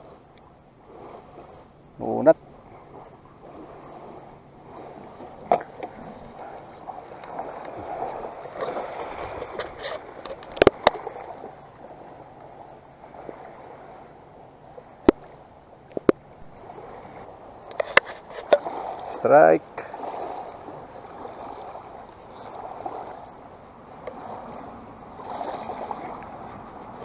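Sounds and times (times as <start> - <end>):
waves lapping on sandy shore: 0.0 - 27.0.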